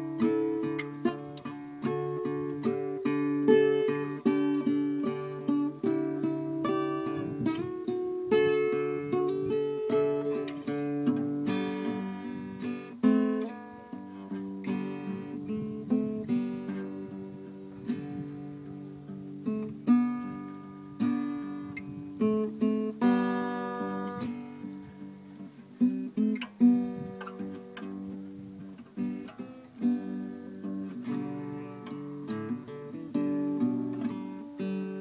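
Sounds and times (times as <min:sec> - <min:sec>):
acoustic guitar plucked and strummed: 0:00.0 - 0:35.0.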